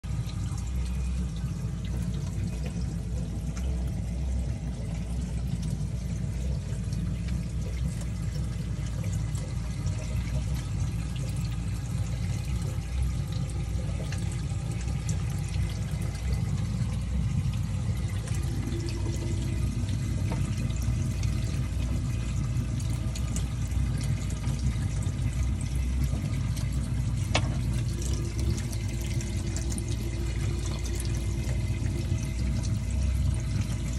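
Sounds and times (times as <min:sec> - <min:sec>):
water pouring and splashing: 0:00.0 - 0:33.9.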